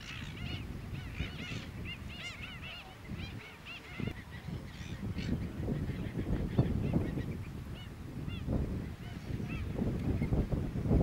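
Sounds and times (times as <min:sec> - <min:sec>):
waterbirds calling: 0:00.0 - 0:10.4.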